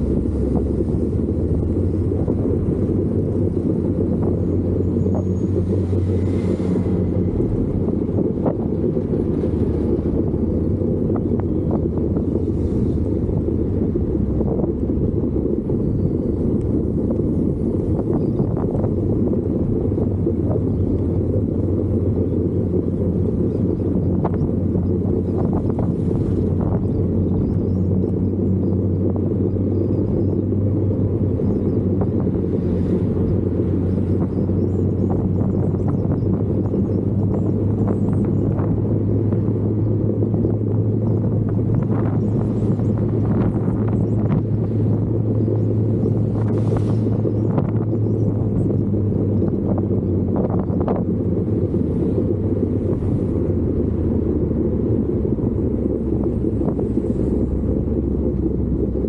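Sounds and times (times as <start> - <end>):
vehicle engine rumbling: 0.0 - 59.0
wind buffeting microphone: 0.0 - 59.0.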